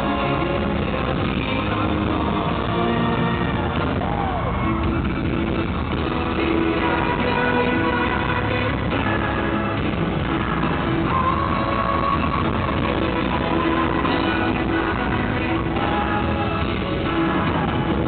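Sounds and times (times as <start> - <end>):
male vocal group singing: 0.0 - 3.4, 6.4 - 18.0
amplified backing band: 0.0 - 18.0.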